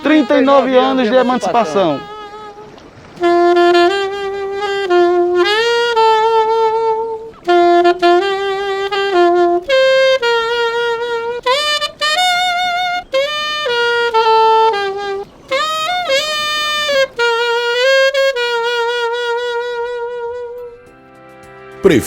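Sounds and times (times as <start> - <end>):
solo saxophone melody: 0.0 - 22.0.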